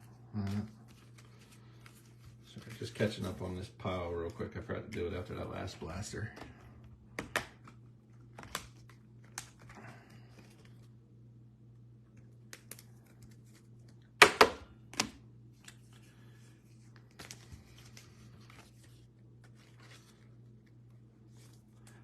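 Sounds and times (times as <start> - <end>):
low steady hum: 0.0 - 22.0
cards rustling and clicking: 0.1 - 11.0, 12.1 - 14.2, 14.8 - 22.0.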